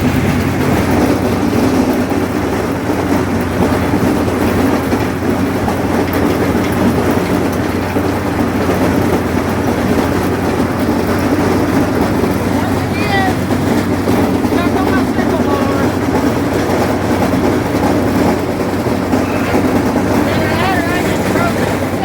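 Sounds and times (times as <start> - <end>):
clattering mechanical rattle: 0.0 - 22.0
tractor diesel engine running: 0.0 - 22.0.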